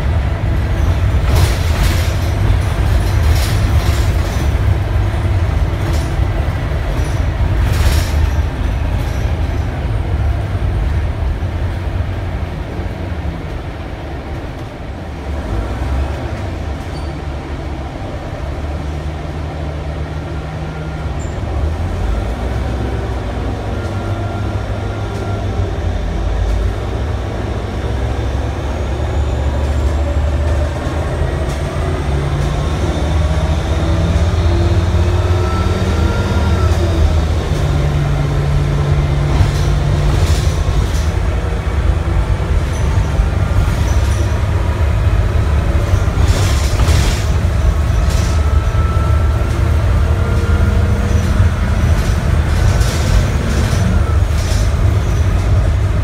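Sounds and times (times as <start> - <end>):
bus engine deep rumble: 0.0 - 56.0.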